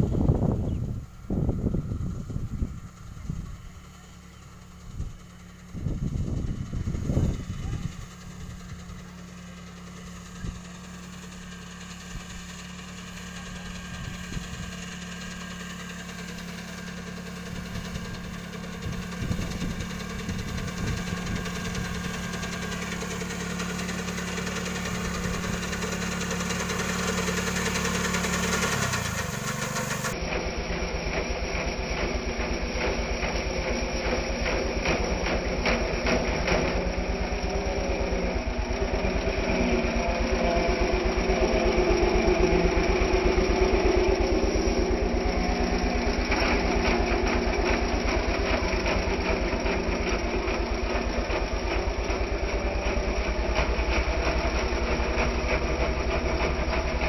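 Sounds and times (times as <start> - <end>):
harvesting machine engine running: 0.0 - 57.0
close engine with rapid firing beat: 1.4 - 57.0.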